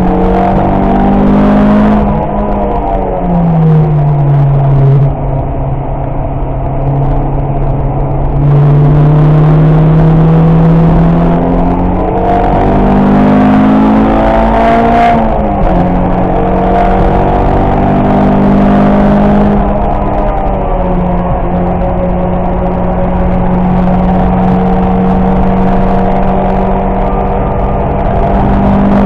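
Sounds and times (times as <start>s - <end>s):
car engine revving in cabin: 0.0s - 29.0s.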